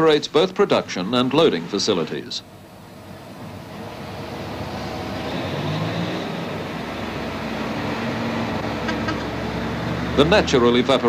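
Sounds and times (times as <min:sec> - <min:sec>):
conveyor belt rumbling: 0:00.0 - 0:11.0.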